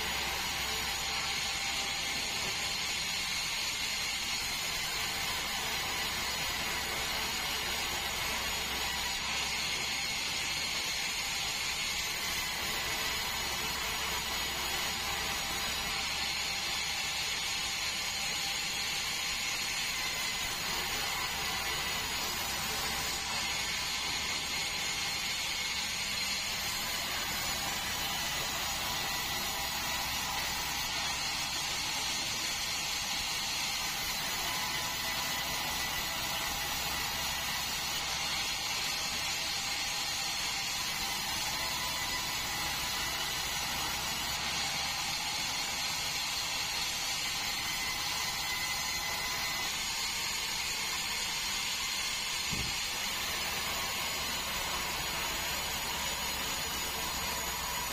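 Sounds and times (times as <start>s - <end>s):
band saw cutting log: 0.0s - 57.9s.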